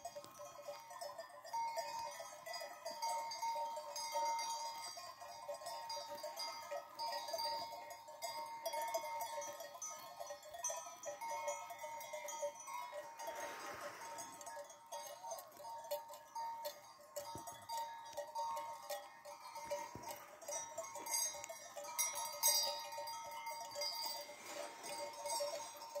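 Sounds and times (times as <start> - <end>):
sheep bells clanking: 0.0 - 26.0.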